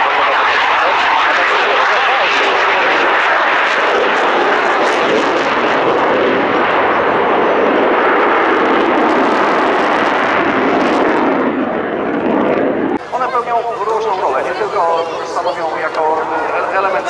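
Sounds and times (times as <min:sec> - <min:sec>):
jet aircraft engine noise: 0:00.0 - 0:17.0.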